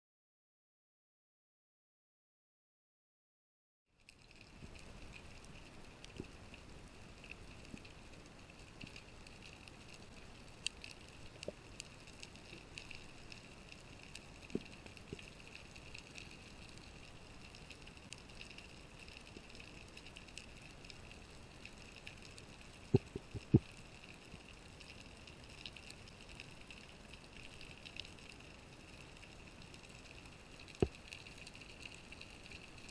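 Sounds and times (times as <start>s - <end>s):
small clicks: 4.0s - 32.9s.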